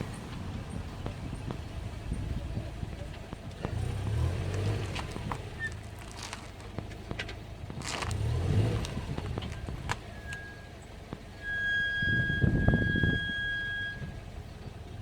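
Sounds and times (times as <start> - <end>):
low rumbling brake noise: 0.0 - 15.0.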